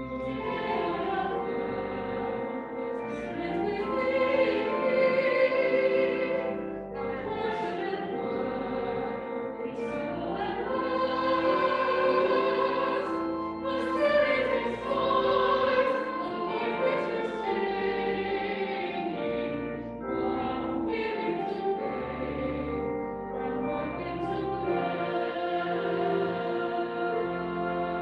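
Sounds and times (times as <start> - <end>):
choir singing a hymn: 0.0 - 28.0
organ accompaniment: 0.0 - 28.0.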